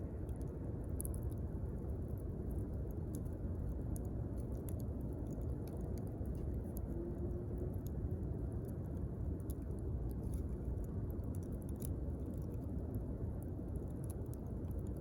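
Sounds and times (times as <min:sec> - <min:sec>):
campfire crackling and popping: 0:00.1 - 0:06.6, 0:07.8 - 0:15.0
flames rumbling: 0:00.1 - 0:15.0.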